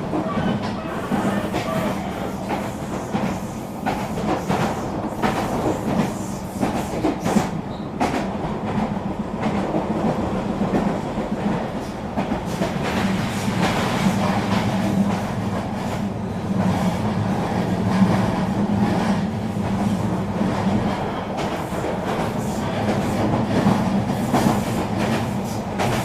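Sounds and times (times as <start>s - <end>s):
train rumble and hum: 0.0s - 26.0s.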